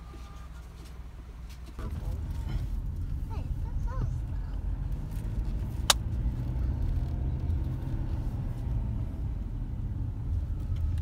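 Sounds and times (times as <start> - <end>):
car driving rumble from inside: 0.0 - 11.0.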